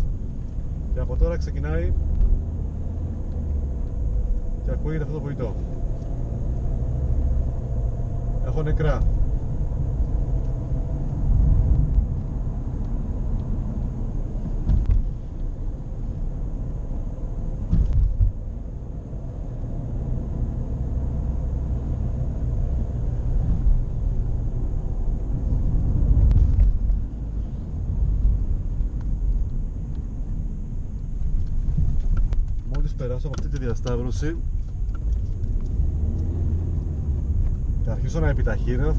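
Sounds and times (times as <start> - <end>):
low drone and road rumble: 0.0 - 38.9.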